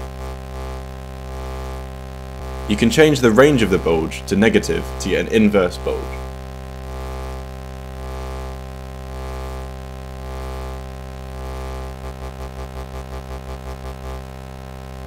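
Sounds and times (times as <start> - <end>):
buzzing synthesized tone: 0.0 - 15.0.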